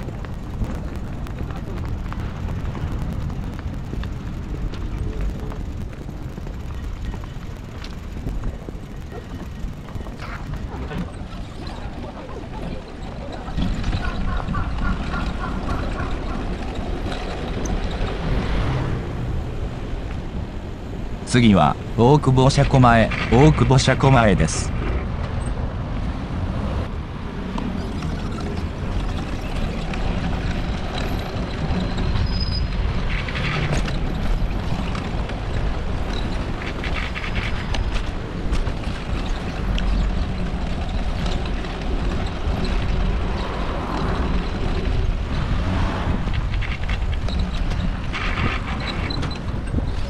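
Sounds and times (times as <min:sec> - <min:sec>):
city street noise: 0:00.0 - 0:50.0
wind buffeting microphone: 0:00.0 - 0:50.0.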